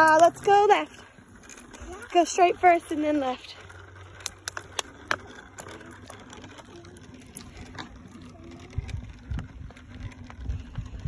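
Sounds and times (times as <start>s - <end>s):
bicycle rattling over asphalt: 0.0s - 11.0s.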